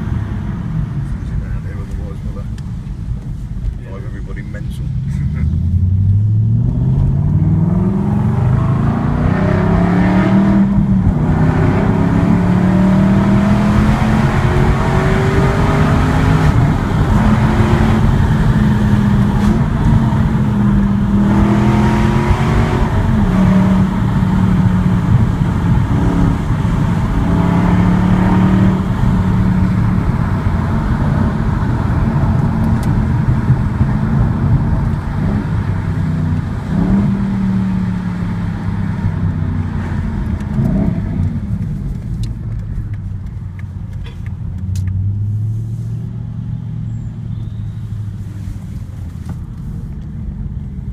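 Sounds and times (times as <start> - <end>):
car engine and loud exhaust: 0.0 - 50.9.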